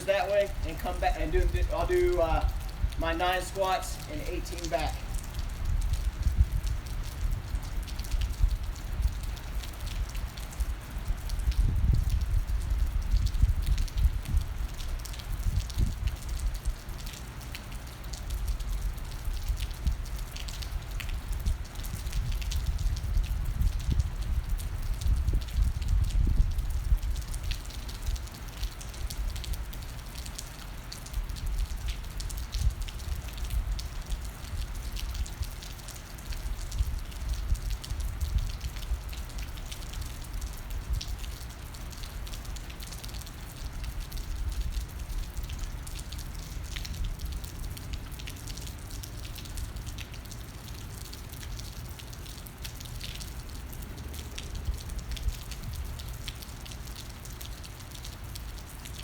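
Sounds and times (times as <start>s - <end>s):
raindrops ticking on surfaces: 0.0s - 59.0s
steady rain falling: 0.0s - 59.0s.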